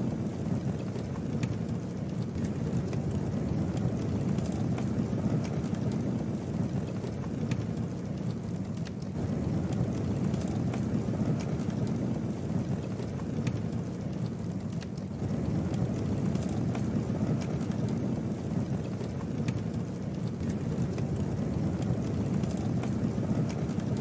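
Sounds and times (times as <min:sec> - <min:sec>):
campfire flames rumbling: 0:00.0 - 0:24.0
wood crackling and popping: 0:00.0 - 0:24.0.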